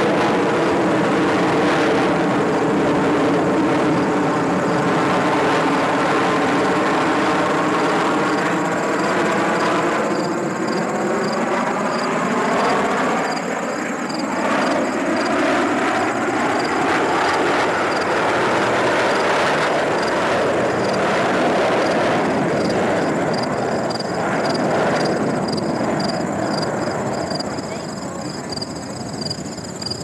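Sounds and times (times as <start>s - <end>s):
jet engine whine falling in pitch: 0.0s - 30.0s
jets passing overhead roaring: 0.0s - 30.0s.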